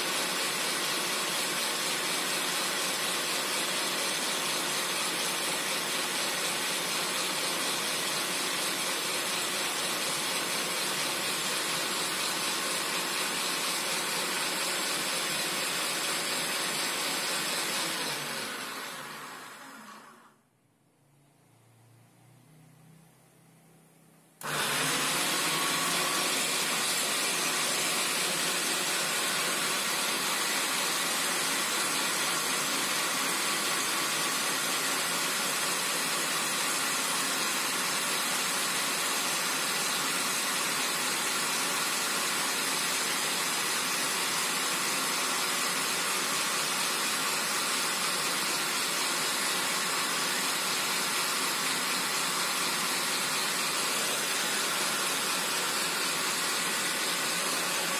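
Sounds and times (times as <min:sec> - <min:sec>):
food processor motor running: 0:00.0 - 0:20.4, 0:24.4 - 0:57.9.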